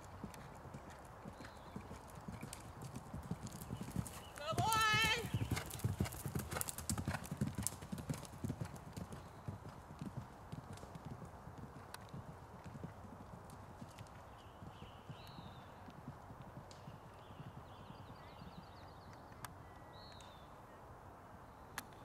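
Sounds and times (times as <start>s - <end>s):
horse hoofbeats on dirt: 0.0s - 18.6s.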